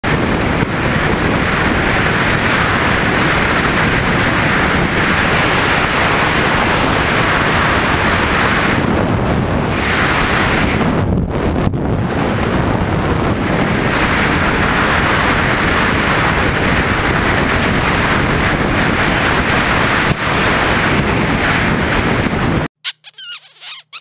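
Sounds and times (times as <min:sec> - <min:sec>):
wind buffeting microphone: 0:00.0 - 0:22.7.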